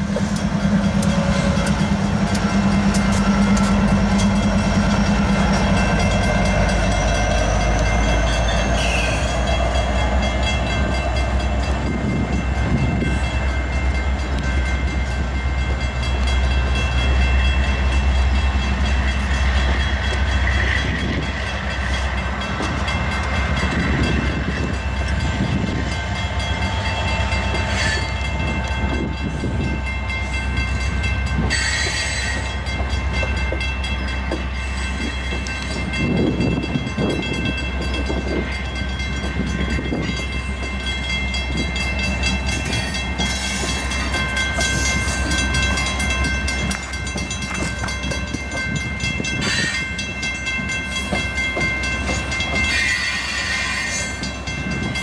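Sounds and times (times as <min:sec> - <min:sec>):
diesel locomotive engine drone: 0:00.0 - 0:55.0
freight train rolling on rails: 0:00.0 - 0:55.0.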